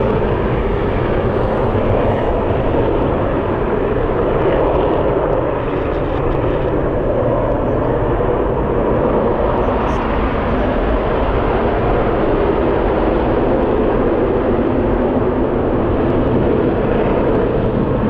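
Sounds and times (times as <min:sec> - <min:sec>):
jet engine roaring: 0:00.0 - 0:18.0.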